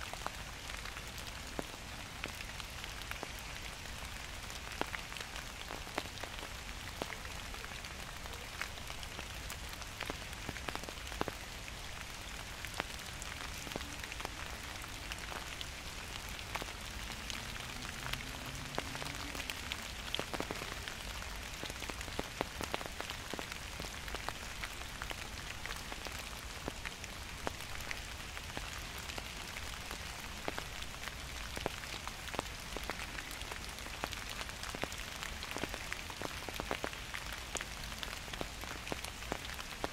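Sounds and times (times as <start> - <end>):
steady rain hiss: 0.0 - 39.9
raindrops ticking: 0.1 - 39.9.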